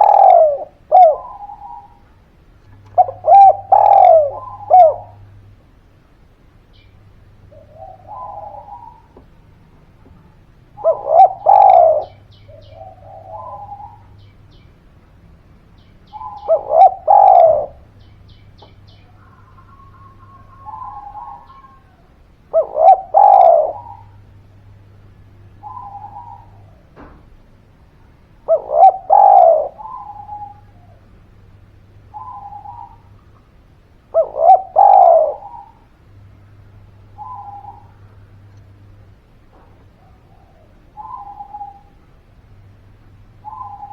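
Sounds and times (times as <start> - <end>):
dove cooing: 0.0 - 5.6, 6.7 - 14.6, 15.8 - 43.9.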